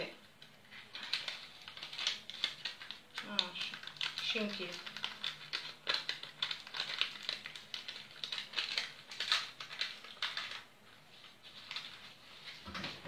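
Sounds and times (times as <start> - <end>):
paper rustling and crinkling: 0.4 - 13.0.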